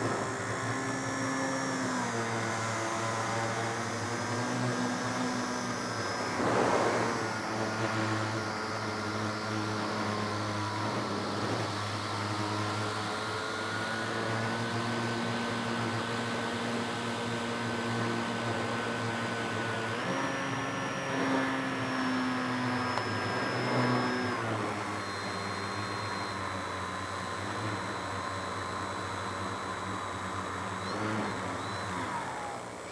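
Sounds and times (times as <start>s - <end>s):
model airplane motor droning: 0.0s - 32.9s.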